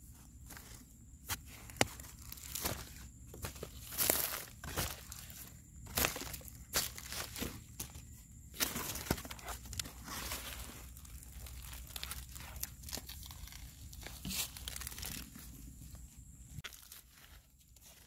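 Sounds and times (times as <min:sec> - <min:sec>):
soil clods tearing and crumbling: 0:00.4 - 0:18.0.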